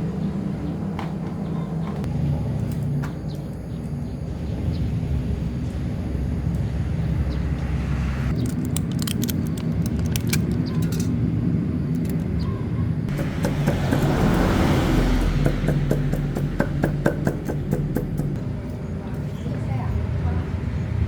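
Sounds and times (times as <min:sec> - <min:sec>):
motor running steadily: 0:01.9 - 0:20.4.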